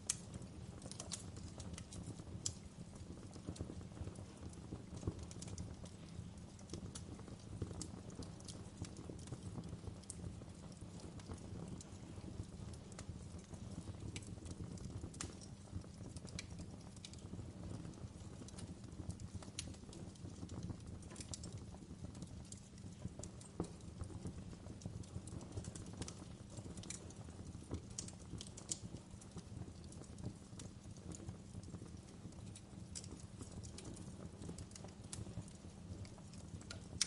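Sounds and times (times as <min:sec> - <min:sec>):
low rumble of fire: 0:00.0 - 0:37.0
wood fire crackling: 0:00.0 - 0:37.0.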